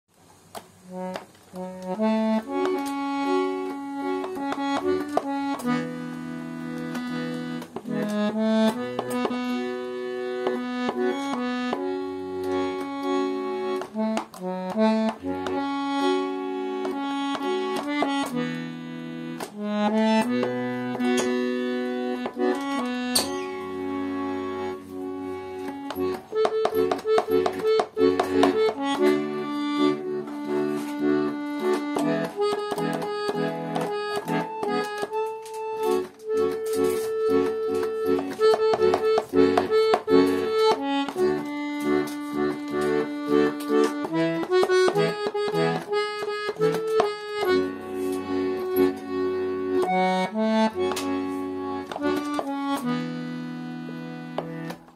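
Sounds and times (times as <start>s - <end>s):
button accordion playing: 0.4s - 54.9s.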